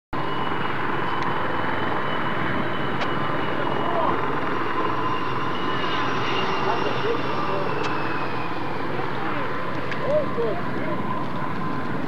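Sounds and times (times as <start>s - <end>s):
jet engines with high whine: 0.2s - 12.0s.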